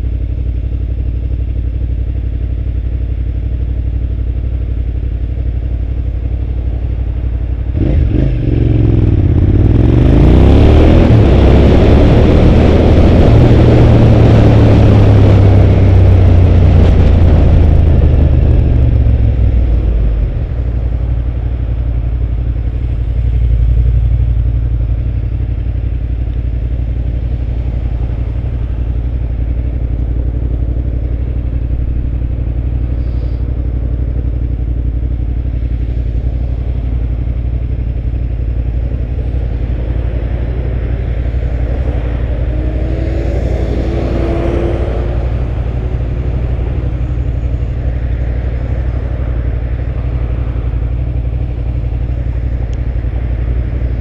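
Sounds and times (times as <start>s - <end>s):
motorcycle engine rumbling: 0.0s - 54.0s
rising whine with rushing noise: 7.8s - 54.0s.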